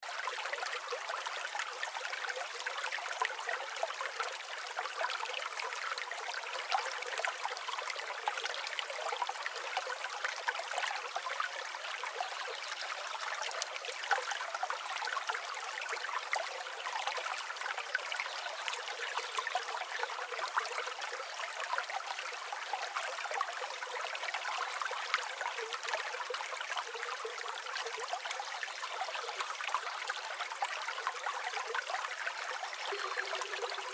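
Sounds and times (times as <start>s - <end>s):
water running and trickling: 0.1s - 33.9s.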